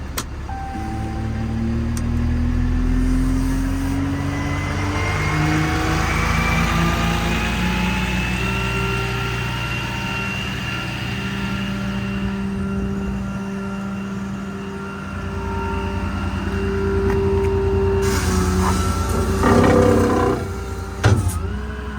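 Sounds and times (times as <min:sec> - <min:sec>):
diesel truck accelerating: 0:00.0 - 0:21.9.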